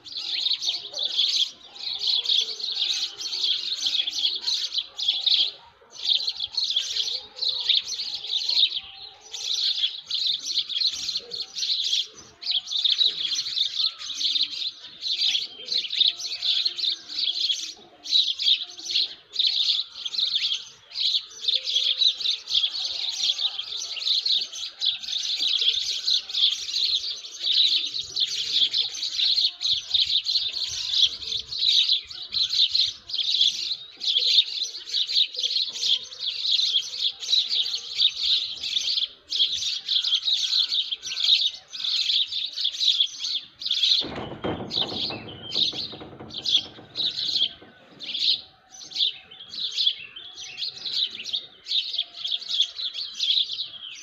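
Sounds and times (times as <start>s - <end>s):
small birds chirping chorus: 0.0s - 54.0s.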